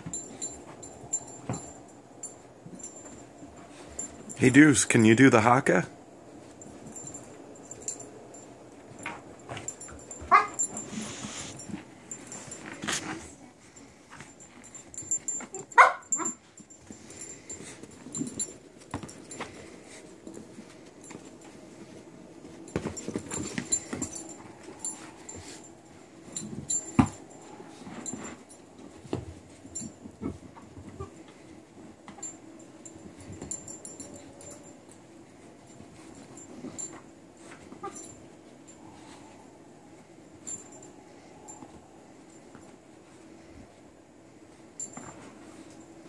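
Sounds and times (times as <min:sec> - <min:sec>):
puppy scuffling with a ball: 0:00.0 - 0:04.4, 0:06.2 - 0:32.4, 0:35.0 - 0:46.0.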